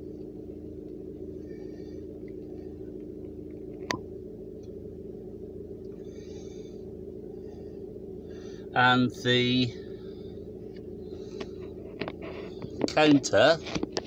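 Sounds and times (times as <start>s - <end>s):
low hum inside car cabin: 0.0s - 14.0s.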